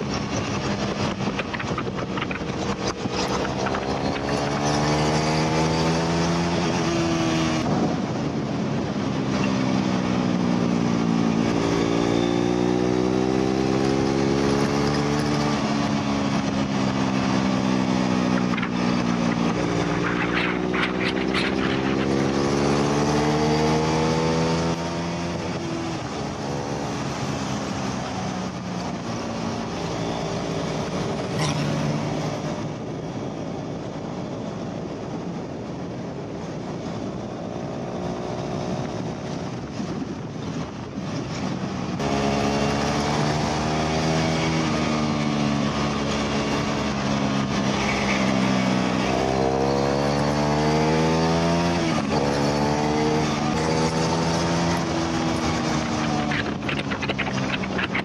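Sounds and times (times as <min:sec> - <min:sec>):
motorcycle engine revving: 0:00.0 - 0:08.4, 0:09.0 - 0:33.0, 0:41.0 - 0:58.0
wind rush: 0:00.0 - 0:58.0.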